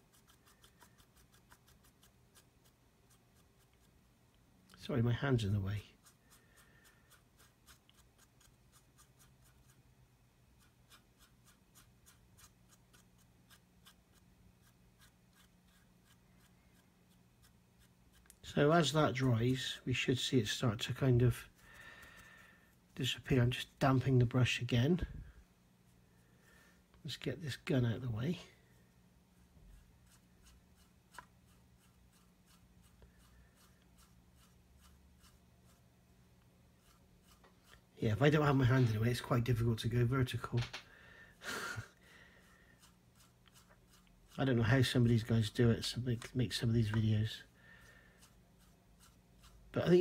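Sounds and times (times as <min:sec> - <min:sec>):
paintbrush scratching on plastic: 0:00.0 - 0:04.0, 0:05.1 - 0:09.9, 0:10.5 - 0:24.4, 0:29.4 - 0:35.9, 0:36.6 - 0:39.9, 0:42.5 - 0:50.0.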